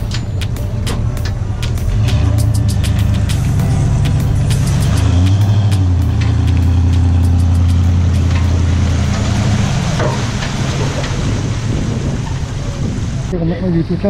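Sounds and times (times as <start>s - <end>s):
engine idling: 0.0s - 13.4s.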